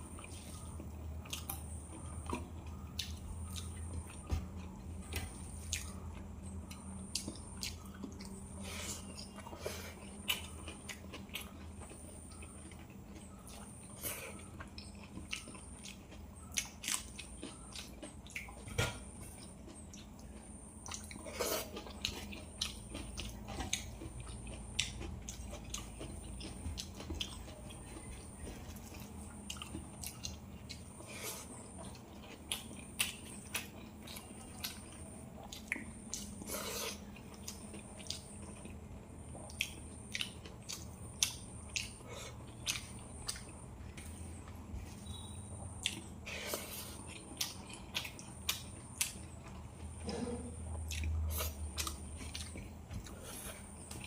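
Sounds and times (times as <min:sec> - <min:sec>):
steady low hum: 0:00.0 - 0:54.0
wet chewing and lip-smacking: 0:00.1 - 0:54.0.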